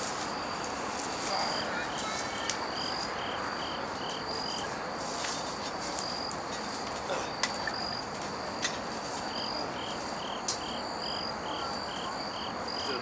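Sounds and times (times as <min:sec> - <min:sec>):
insects trilling: 0:00.0 - 0:13.0
lower insect chirp: 0:00.0 - 0:13.0.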